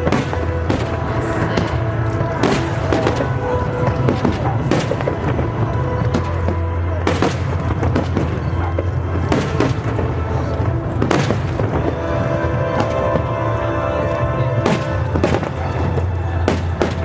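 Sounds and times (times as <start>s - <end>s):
fireworks bangs: 0.0s - 17.0s
music with low drone: 0.0s - 17.0s.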